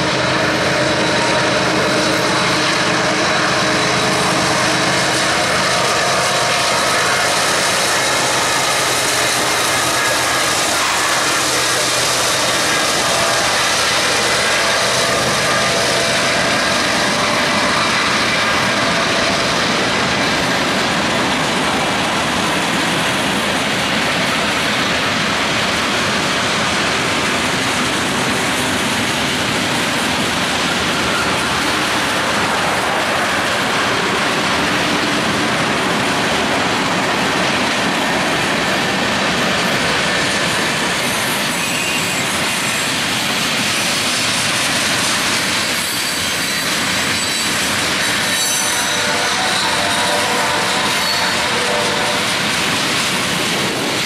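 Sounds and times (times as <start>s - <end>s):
diesel locomotive engines: 0.0s - 54.0s
train wheels clattering on rails: 0.0s - 54.0s.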